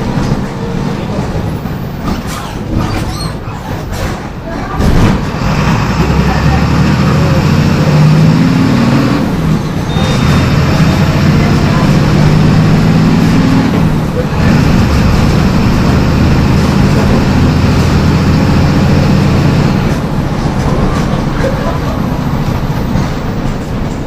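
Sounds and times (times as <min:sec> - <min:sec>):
diesel bus engine running: 0:00.0 - 0:24.0.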